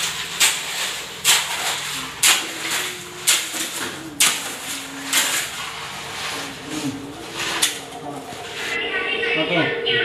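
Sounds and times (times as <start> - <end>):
shovel scraping wet concrete: 0.0 - 8.8.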